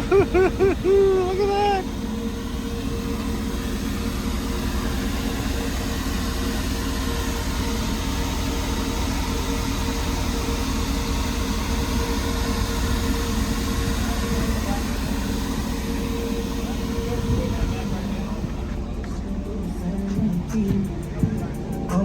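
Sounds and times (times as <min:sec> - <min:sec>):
constant mid-pitched hum: 0:00.0 - 0:22.0.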